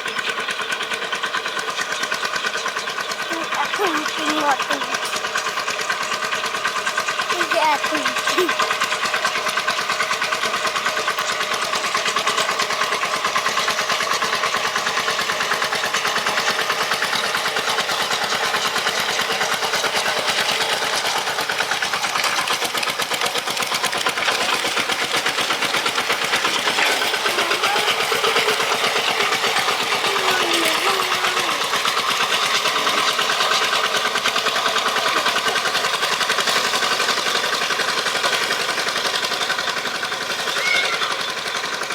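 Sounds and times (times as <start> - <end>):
tractor motor running: 0.0 - 41.9.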